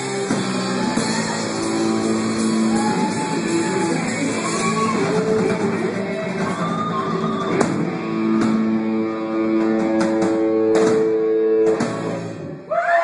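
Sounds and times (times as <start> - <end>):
electric guitar ringing notes: 0.0 - 12.7.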